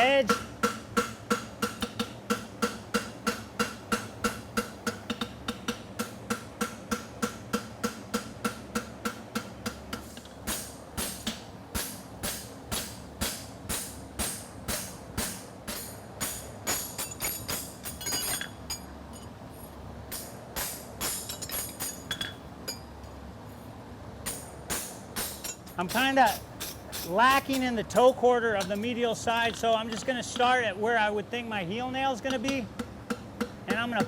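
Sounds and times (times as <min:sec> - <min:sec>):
hammer striking horseshoe on anvil: 0:00.2 - 0:19.3, 0:20.1 - 0:22.9, 0:24.2 - 0:30.6, 0:32.2 - 0:34.0.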